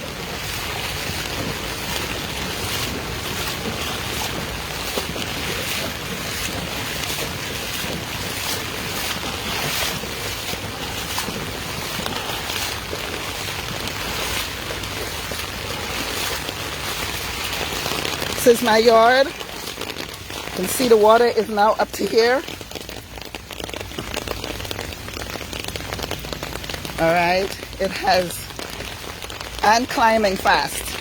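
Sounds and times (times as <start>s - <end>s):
rain on a flooded street: 0.0s - 31.0s.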